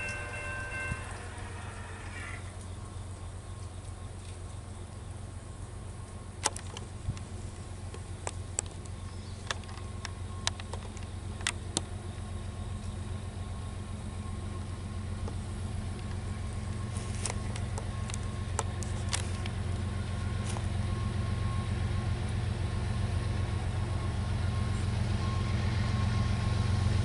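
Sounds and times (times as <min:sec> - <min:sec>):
distant diesel locomotive drone: 0:00.0 - 0:27.0.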